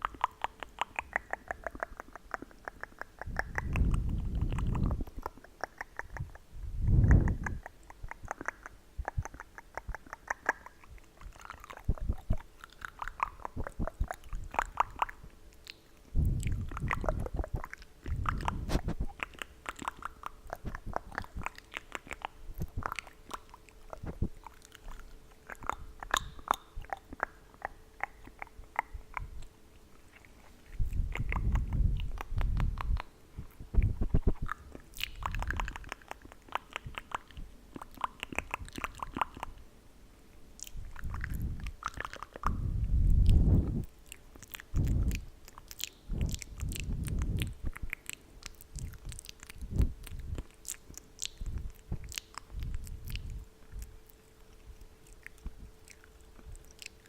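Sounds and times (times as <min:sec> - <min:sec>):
tongue clicks: 0:00.0 - 0:39.6, 0:40.6 - 0:57.0
wet mouth sounds: 0:00.0 - 0:39.7, 0:40.5 - 0:57.0.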